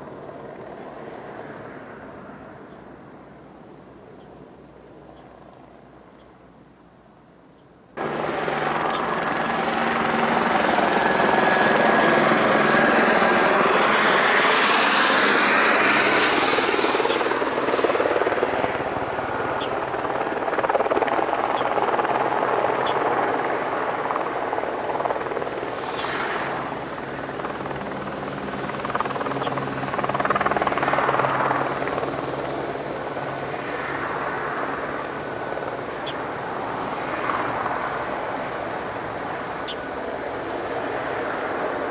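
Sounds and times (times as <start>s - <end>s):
helicopter engine whine: 0.0s - 1.3s, 8.0s - 41.9s
helicopter rotor noise: 0.0s - 1.3s, 8.0s - 41.9s.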